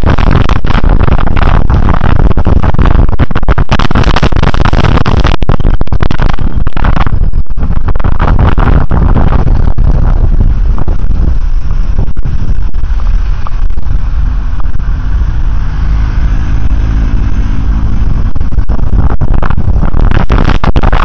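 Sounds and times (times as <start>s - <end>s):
road traffic: 0.0s - 21.0s
wind buffeting microphone: 0.0s - 21.0s.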